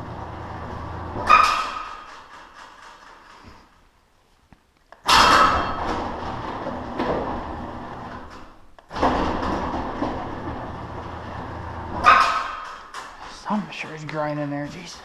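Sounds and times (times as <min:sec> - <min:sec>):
garage door opener running: 0:00.0 - 0:03.6, 0:05.0 - 0:13.6.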